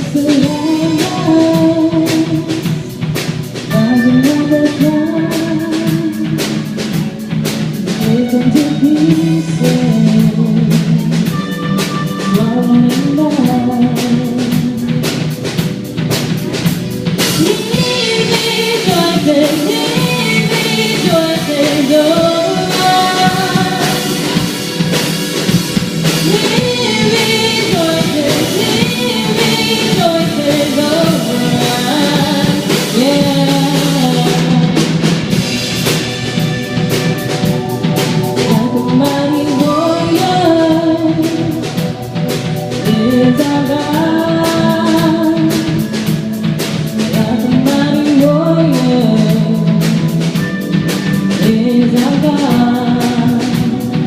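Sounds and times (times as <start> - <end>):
drum kit beat: 0.0 - 54.0
rock worship band playing: 0.0 - 54.0
gliding melody line: 3.7 - 49.6.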